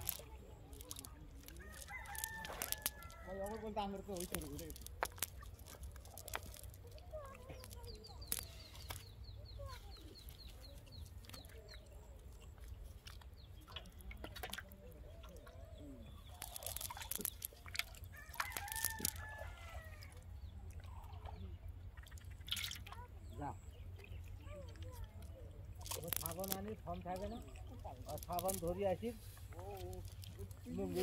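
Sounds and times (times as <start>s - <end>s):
cast net clicks and rustles: 0.0s - 15.5s, 16.2s - 20.1s, 24.5s - 31.0s.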